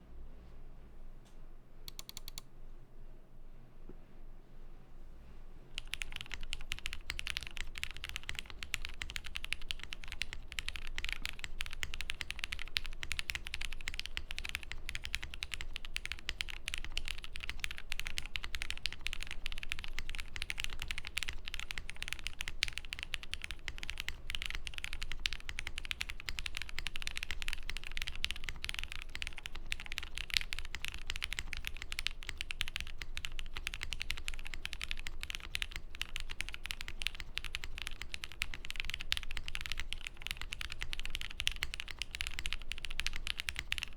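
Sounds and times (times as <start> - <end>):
fast mechanical keyboard typing: 1.9 - 2.4, 5.8 - 43.9.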